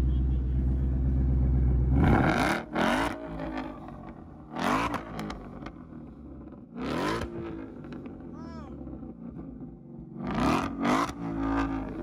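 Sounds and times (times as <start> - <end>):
car engine idling: 0.0 - 12.0
engine revving: 1.1 - 12.0.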